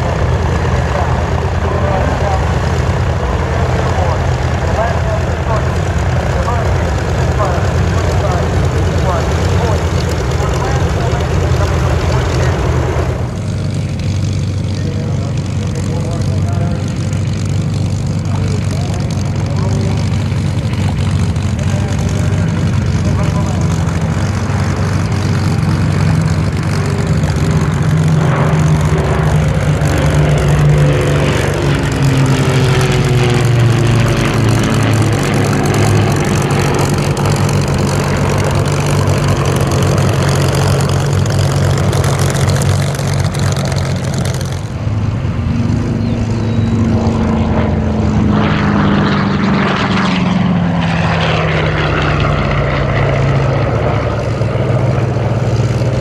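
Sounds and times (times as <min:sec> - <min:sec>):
propeller planes flying past: 0:00.0 - 0:56.0.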